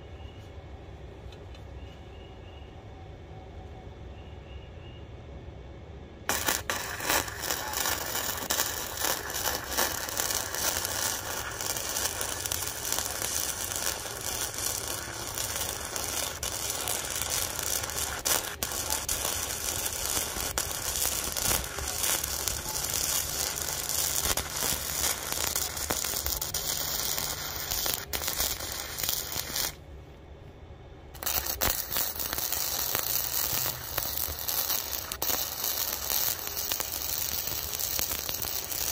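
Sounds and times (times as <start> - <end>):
welding arc crackling: 6.3 - 29.8, 31.2 - 38.9.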